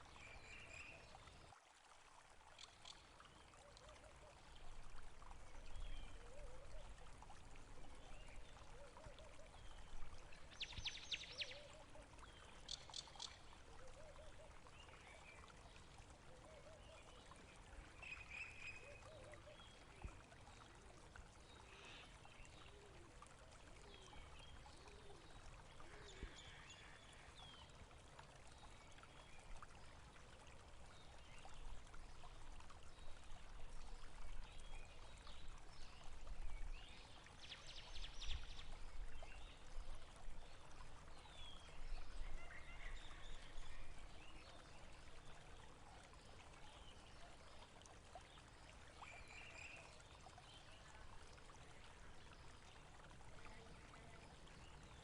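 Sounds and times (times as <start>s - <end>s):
water flowing and trickling: 0.0s - 55.0s.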